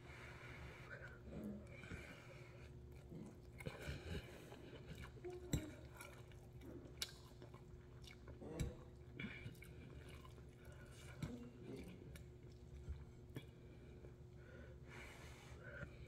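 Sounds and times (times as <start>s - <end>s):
chewing noodles: 1.0s - 14.3s.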